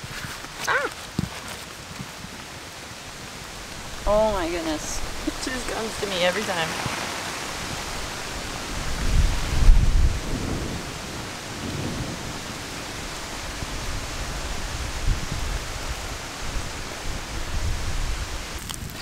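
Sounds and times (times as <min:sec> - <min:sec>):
pouring rain: 0:00.0 - 0:19.0.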